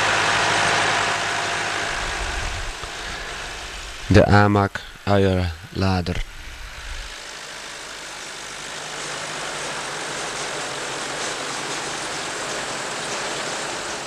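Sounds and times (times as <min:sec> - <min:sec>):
conveyor rattling hiss: 0:00.0 - 0:14.0
tractors running: 0:00.0 - 0:14.0.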